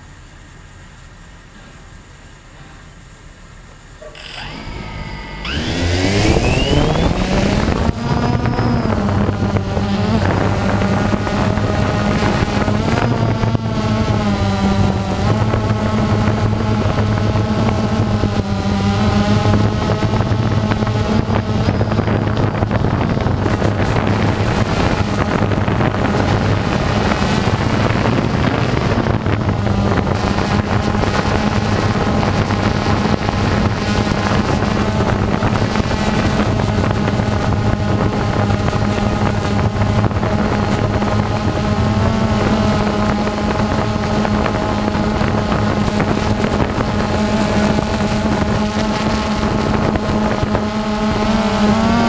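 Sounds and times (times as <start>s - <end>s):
drone propellers buzzing: 4.0s - 52.0s.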